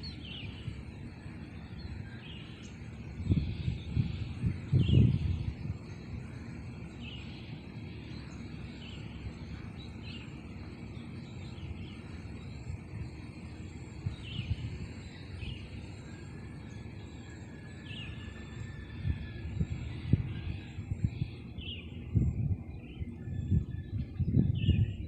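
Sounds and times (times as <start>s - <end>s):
low outdoor rumble: 0.0s - 25.0s
small birds chirping: 0.0s - 25.0s.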